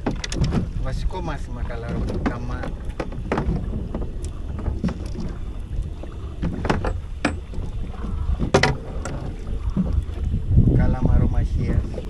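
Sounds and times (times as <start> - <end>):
knocks and clicks on boat: 0.0 - 12.0
low rumble of wind and water: 0.0 - 12.0.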